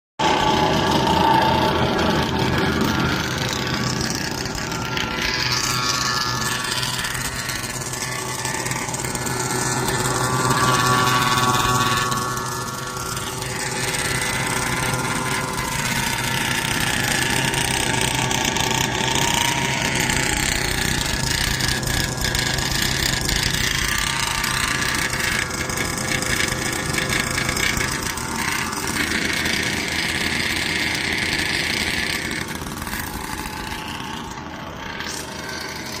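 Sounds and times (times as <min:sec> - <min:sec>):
two-stroke engine idling: 0:00.2 - 0:36.0.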